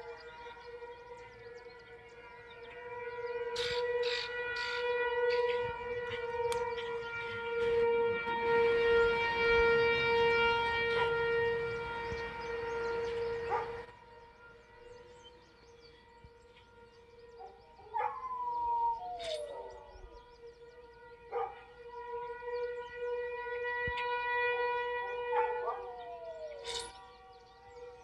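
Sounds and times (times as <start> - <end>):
tornado siren steady tone: 0.0 - 28.0.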